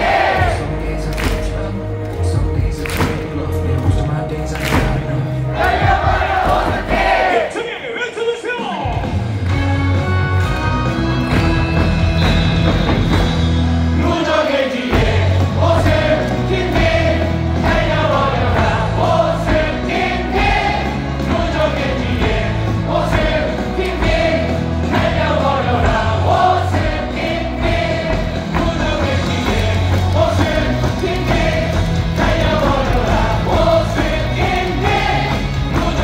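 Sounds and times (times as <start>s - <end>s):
backing music with bass: 0.0s - 7.4s, 8.8s - 36.0s
stadium crowd singing: 0.0s - 8.3s, 13.1s - 36.0s.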